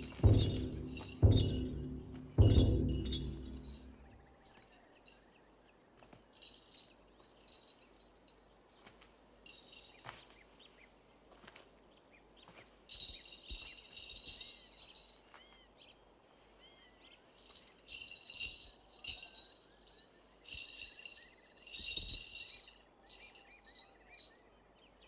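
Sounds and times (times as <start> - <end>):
faint birdsong twittering: 0.0 - 25.0.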